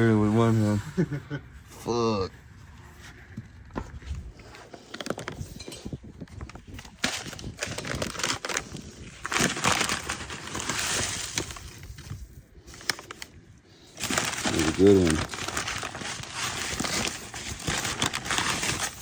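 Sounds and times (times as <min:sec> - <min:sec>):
rustling and crinkling: 0:01.6 - 0:19.0.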